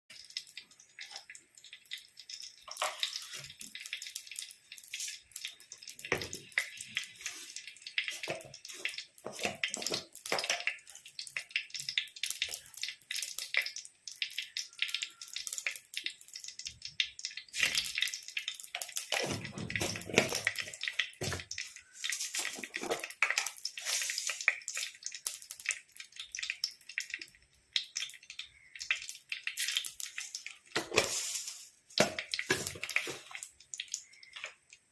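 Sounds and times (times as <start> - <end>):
oil sizzling with crackling and popping: 0.1 - 34.9.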